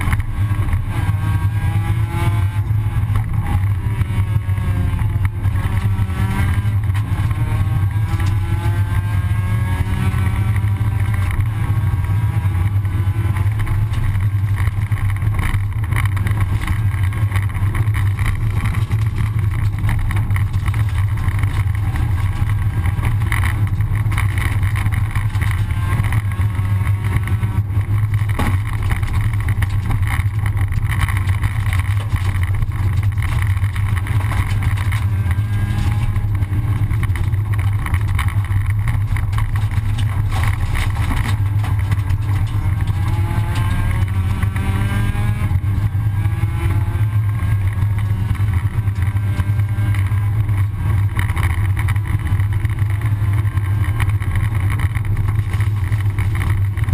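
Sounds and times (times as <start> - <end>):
rally car engine revving: 0.0 - 56.9
road and gravel noise: 0.0 - 56.9.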